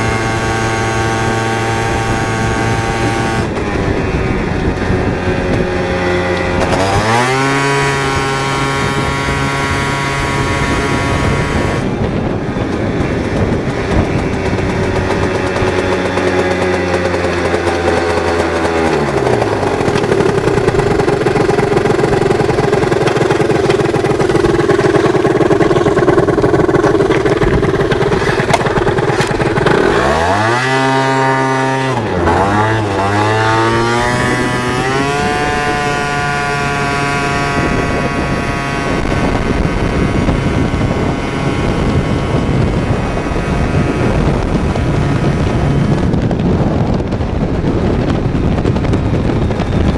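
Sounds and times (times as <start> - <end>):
scooter engine revving: 0.0 - 49.9.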